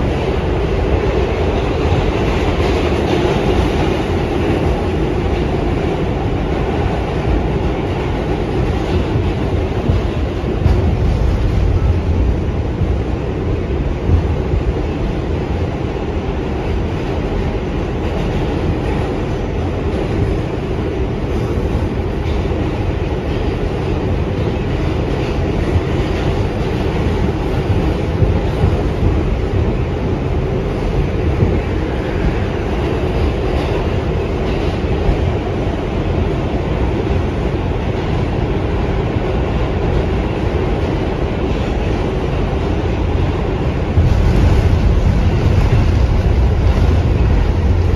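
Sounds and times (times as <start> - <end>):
subway train wheels on rails: 0.0 - 47.9.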